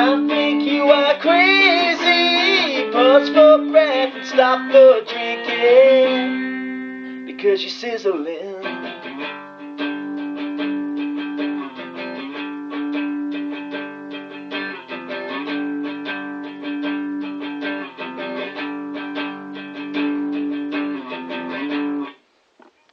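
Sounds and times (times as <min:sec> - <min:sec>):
guitar strumming chords: 0:00.0 - 0:22.2.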